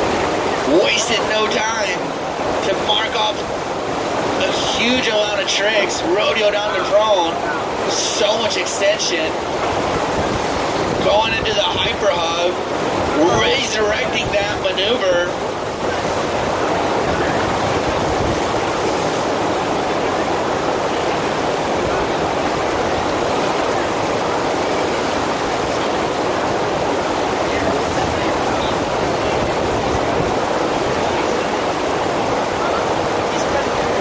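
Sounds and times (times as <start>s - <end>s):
water rushing in a steady roar: 0.0s - 34.0s.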